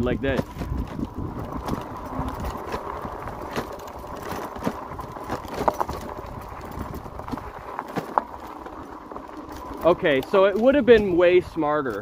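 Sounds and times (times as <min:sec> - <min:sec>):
bike rattling over bumps: 0:00.0 - 0:12.0
bike tyres crunching on gravel: 0:00.0 - 0:12.0.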